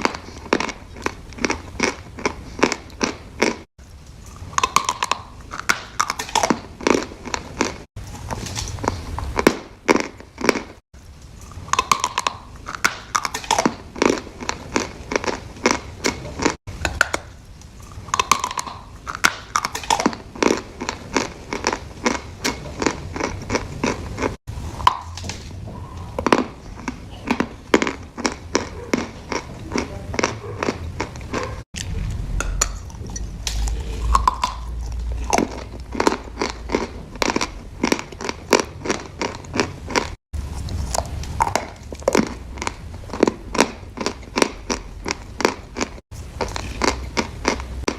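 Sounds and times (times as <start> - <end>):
crunchy food being chewed: 0.0 - 47.9.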